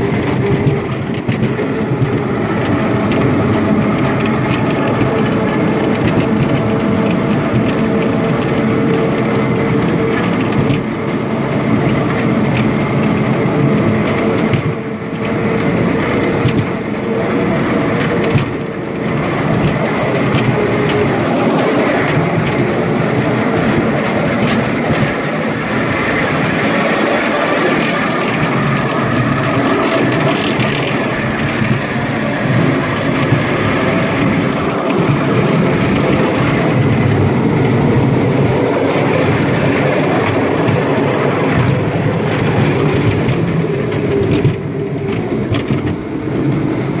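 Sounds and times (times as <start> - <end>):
ride-on train wheels rattling: 0.0 - 47.0.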